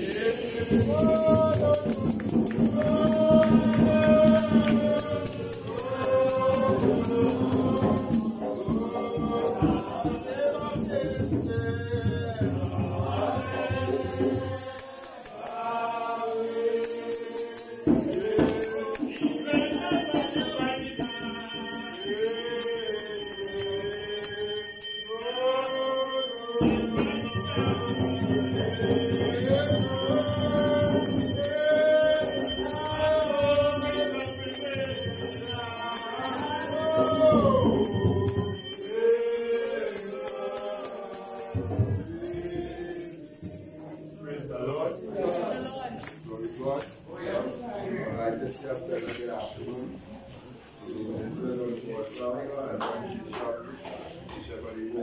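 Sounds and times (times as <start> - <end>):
congregation singing a hymn: 0.0 - 49.6
shaken hand percussion: 0.0 - 55.0.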